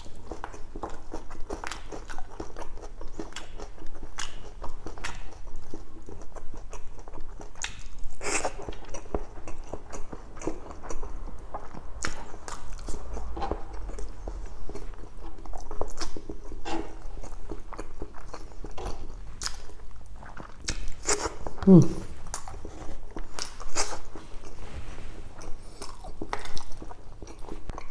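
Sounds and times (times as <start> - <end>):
person chewing food: 0.0 - 24.6, 25.3 - 27.9.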